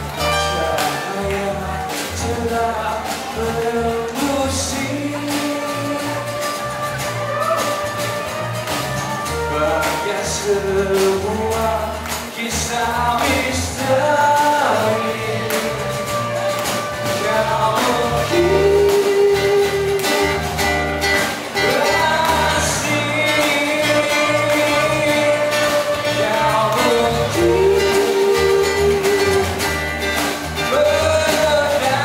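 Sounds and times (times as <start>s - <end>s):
drum kit: 0.0s - 32.0s
man singing: 0.0s - 32.0s
strummed acoustic guitars: 0.0s - 32.0s.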